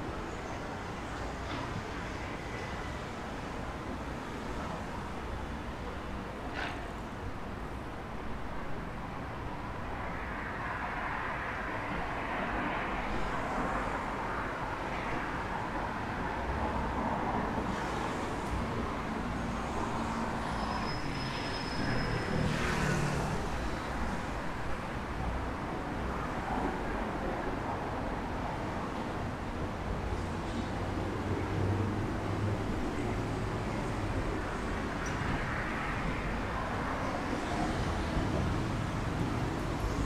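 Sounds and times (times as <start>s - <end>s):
city road traffic hum: 0.0s - 40.0s.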